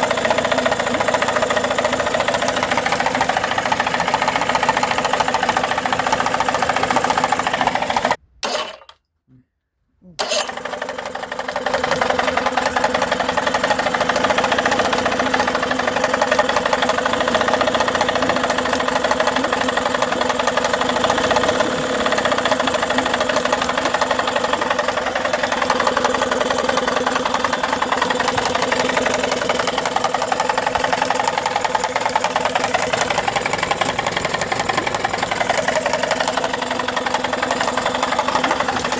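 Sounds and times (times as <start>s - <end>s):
outboard motor knocking: 0.0s - 8.8s, 10.2s - 38.9s.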